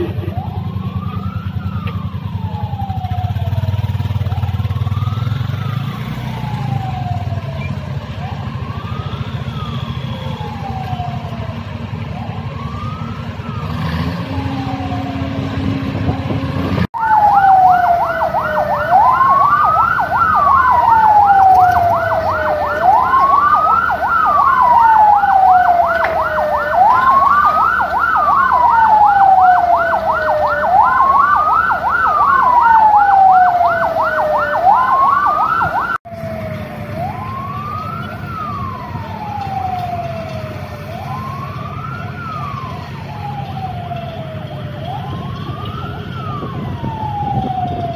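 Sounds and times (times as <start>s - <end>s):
fast warbling siren: 0.0s - 47.9s
siren wailing: 0.0s - 47.9s.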